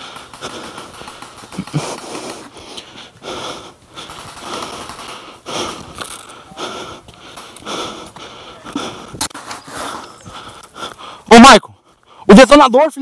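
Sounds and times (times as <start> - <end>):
person breathing hard wheezing: 0.0 - 11.3.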